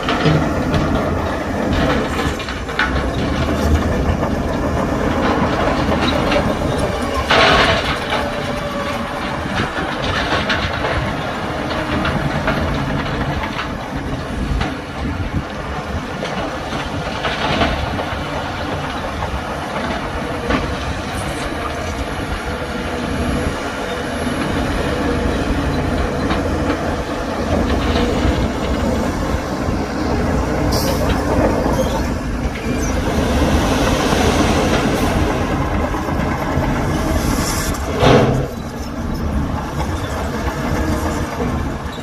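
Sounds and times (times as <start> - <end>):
steel tracks clanking: 0.0 - 42.0.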